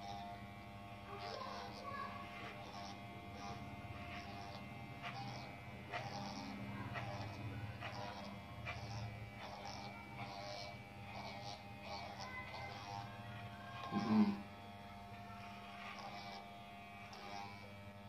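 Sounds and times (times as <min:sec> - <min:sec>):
blades crackling through hair: 0:00.0 - 0:18.0
electric hair clipper buzzing: 0:00.0 - 0:18.0.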